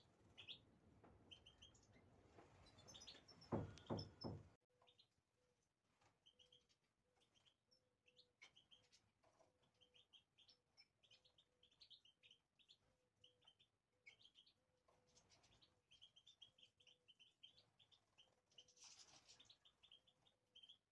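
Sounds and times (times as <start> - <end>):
finches chirping and twittering: 0.3 - 0.6, 1.3 - 5.0, 6.2 - 20.9.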